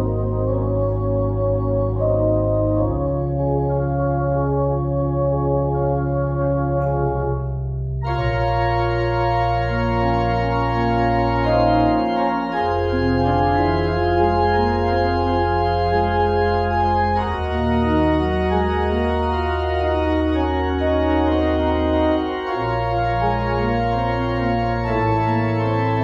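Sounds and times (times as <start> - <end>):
church organ chords: 0.0 - 26.0.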